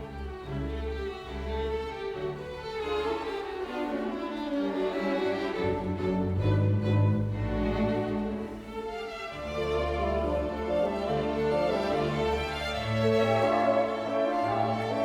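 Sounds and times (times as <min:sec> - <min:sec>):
orchestral strings music: 0:00.0 - 0:15.0.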